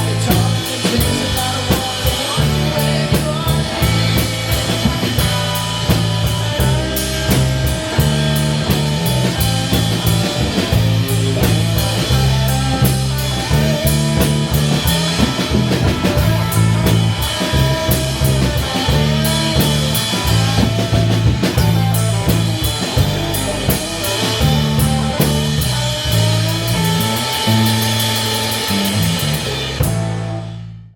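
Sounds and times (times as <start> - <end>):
electric guitar: 0.0 - 30.8
bass line: 0.0 - 30.9
drum kit beat: 0.0 - 30.9.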